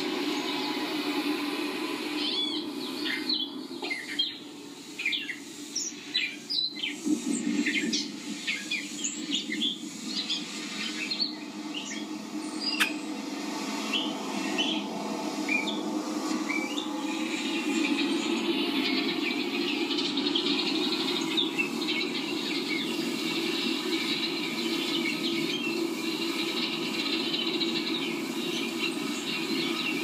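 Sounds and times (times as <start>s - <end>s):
low hum: 0.0s - 30.0s
songbirds chirping through speakers: 0.0s - 30.0s.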